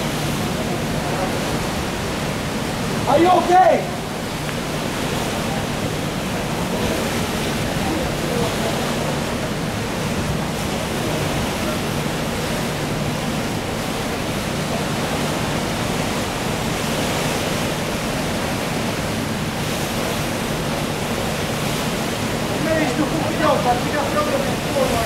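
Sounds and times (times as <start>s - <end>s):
sea swell rushing against hull: 0.0s - 25.0s.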